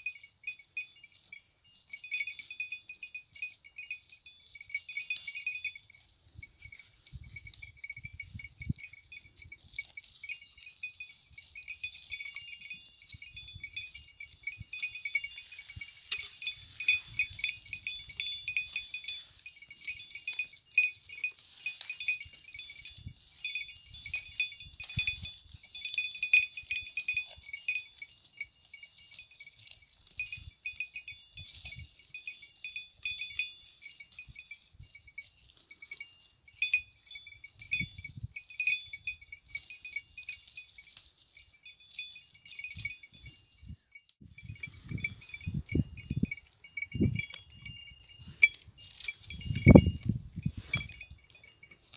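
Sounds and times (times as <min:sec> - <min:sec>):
small bell jingling: 0:00.0 - 0:51.9.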